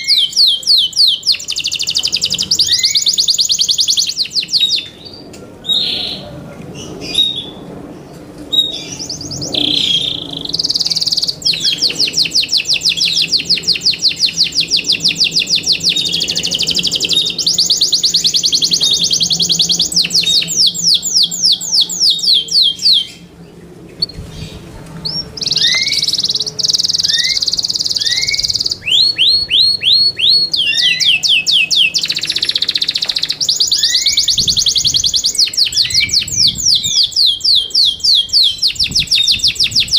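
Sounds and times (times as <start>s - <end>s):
canary singing trills: 0.0s - 7.6s, 8.5s - 39.9s.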